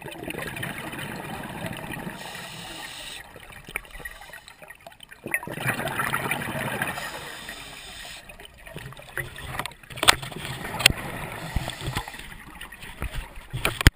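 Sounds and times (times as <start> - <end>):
underwater bubbles gurgling: 0.0 - 13.9.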